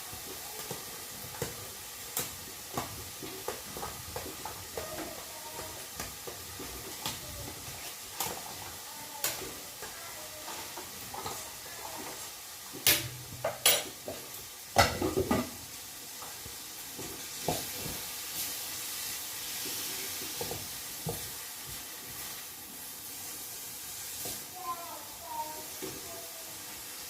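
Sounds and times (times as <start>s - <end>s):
seafood sizzling in a pan: 0.0s - 27.0s.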